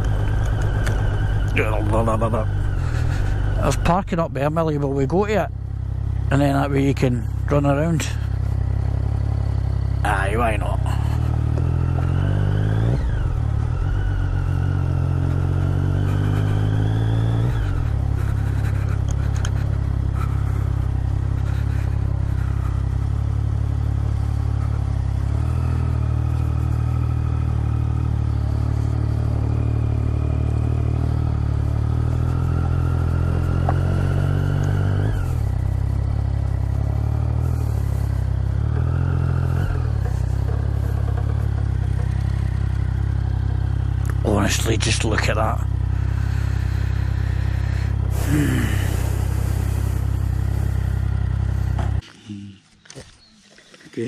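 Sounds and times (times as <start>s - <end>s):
motorcycle engine revving: 0.0s - 52.1s.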